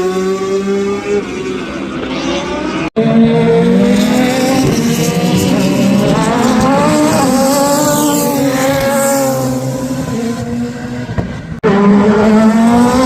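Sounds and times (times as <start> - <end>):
race car engine rising in pitch: 0.0 - 13.0
racing car engine at high revs: 0.0 - 13.0.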